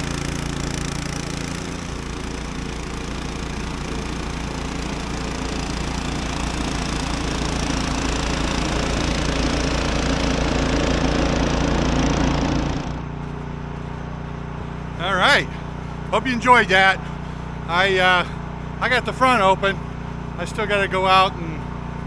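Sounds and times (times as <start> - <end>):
snow blower engine running: 0.0 - 22.0.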